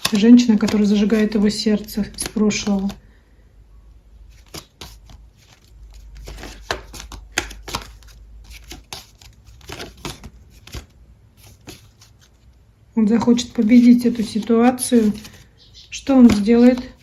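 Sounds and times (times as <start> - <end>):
cards clicking and rustling: 0.0 - 3.0, 4.3 - 12.5, 13.3 - 17.0
low steady hum: 0.0 - 17.0.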